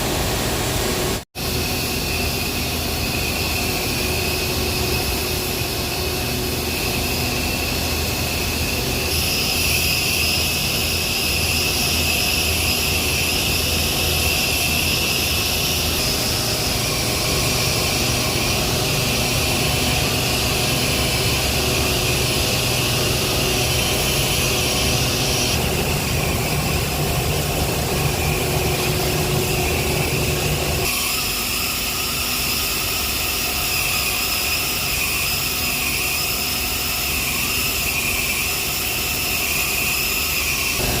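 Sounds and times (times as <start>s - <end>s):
heavy machinery humming: 0.0s - 31.7s, 36.6s - 41.0s
high steady whining tones: 0.0s - 41.0s.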